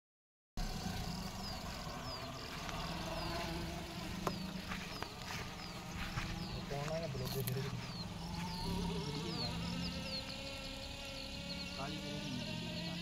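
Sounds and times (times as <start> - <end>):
bird chirping: 0.6 - 13.0
steady low hum: 0.6 - 13.0.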